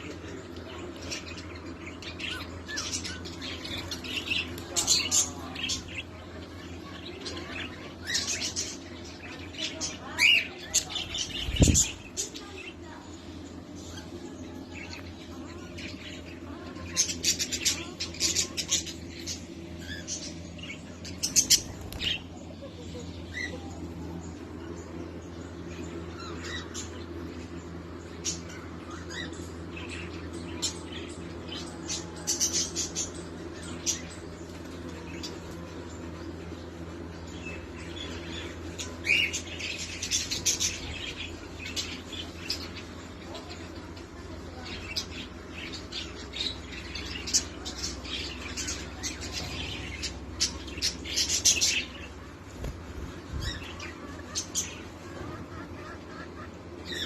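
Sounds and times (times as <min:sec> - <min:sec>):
parakeets chirping and squawking: 0:00.0 - 0:57.0
steady low hum: 0:00.0 - 0:57.0.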